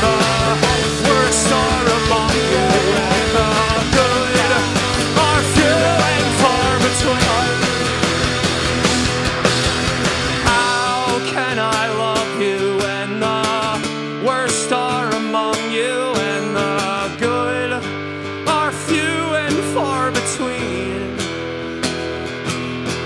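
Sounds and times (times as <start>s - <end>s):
rock guitar melody: 0.0s - 23.0s.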